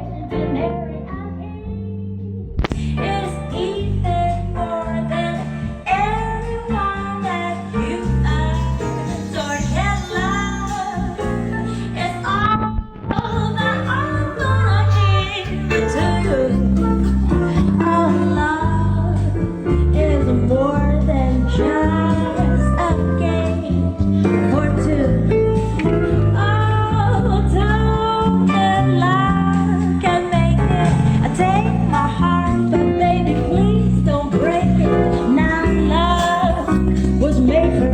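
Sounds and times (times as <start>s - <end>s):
song with singer and bass: 0.0s - 37.9s.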